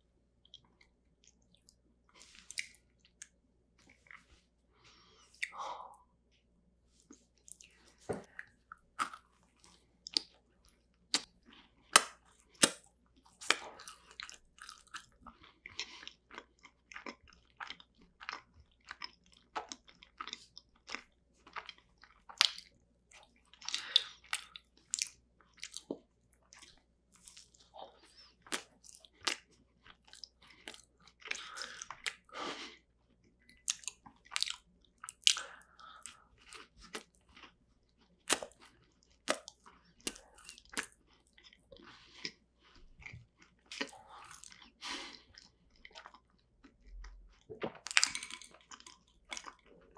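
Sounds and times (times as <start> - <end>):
wet chewing: 7.4 - 32.4, 33.2 - 49.9.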